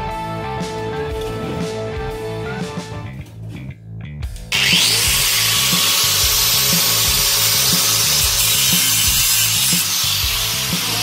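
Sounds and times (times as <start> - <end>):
music with beat and bass line: 0.0 - 11.0.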